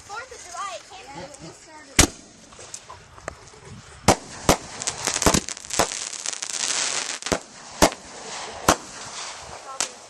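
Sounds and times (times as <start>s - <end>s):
crackling hiss: 0.0s - 10.0s
firecrackers banging: 1.9s - 10.0s.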